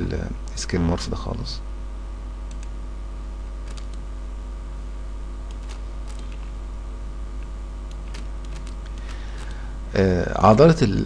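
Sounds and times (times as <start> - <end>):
low electrical hum and hiss: 0.0 - 11.0.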